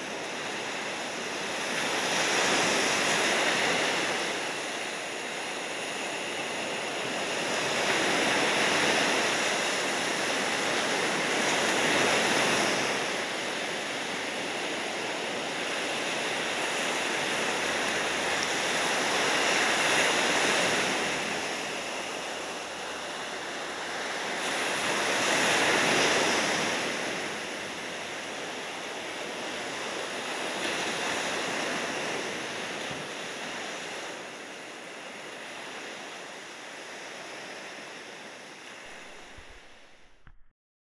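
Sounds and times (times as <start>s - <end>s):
ocean waves breaking: 0.0s - 40.5s.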